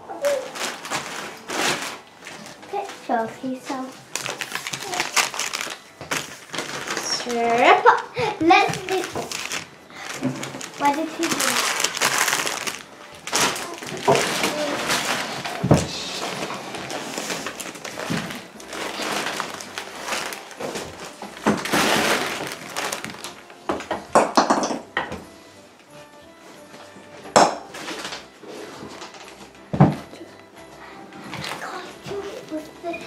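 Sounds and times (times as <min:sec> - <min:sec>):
wrapping paper rustling: 0:00.0 - 0:24.2, 0:25.4 - 0:33.0
music playing: 0:00.0 - 0:33.0.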